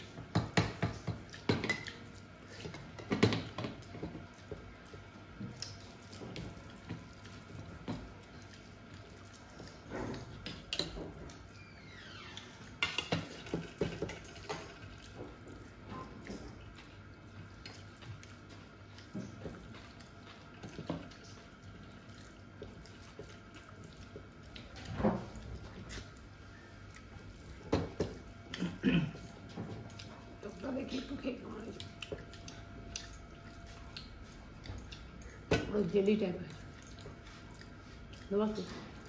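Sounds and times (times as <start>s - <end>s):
wet chewing and smacking: 0.0s - 39.0s.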